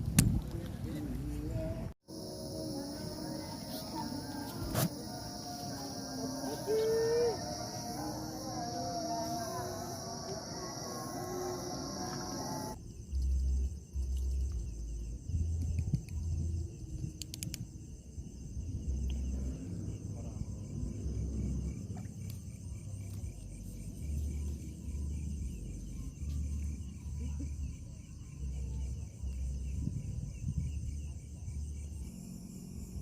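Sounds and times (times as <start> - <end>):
insects chirring: 2.1 - 33.0.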